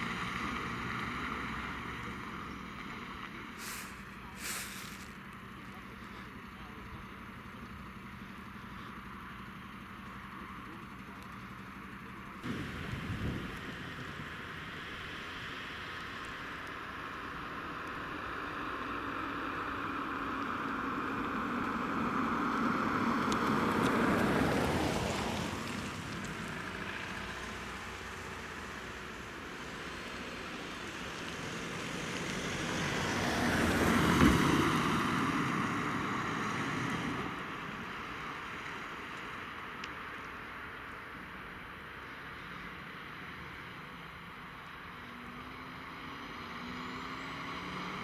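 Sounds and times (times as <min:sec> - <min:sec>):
fire engines driving past: 0:00.0 - 0:48.0.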